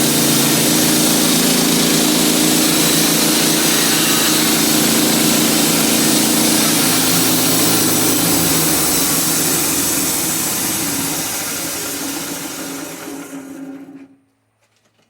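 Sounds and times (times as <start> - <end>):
sawmill engine running: 0.0 - 14.2.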